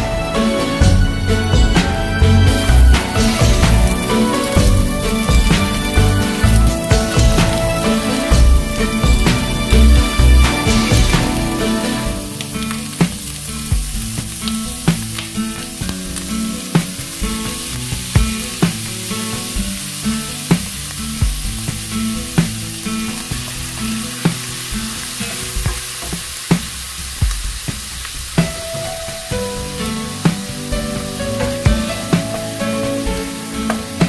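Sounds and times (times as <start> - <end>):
background music with a beat: 0.0 - 34.0
meat sizzling in a frying pan: 0.6 - 34.0.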